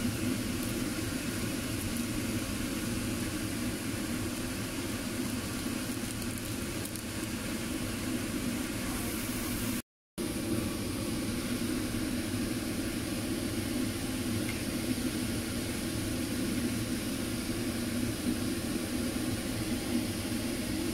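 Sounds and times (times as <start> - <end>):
fan humming and rushing: 0.0 - 20.9.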